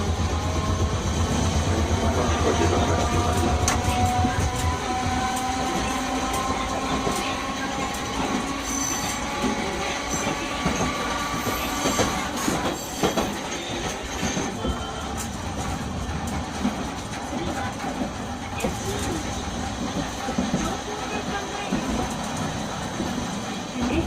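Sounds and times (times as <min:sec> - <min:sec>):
streetcar running noise: 0:00.0 - 0:24.0.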